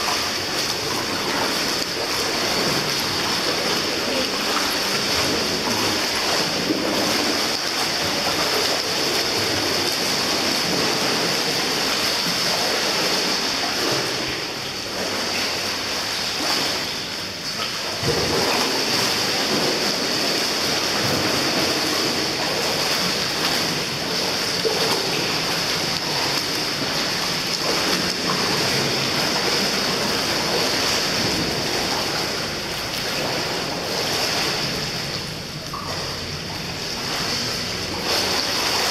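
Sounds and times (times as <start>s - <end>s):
swimming pool water rushing: 0.0s - 38.9s.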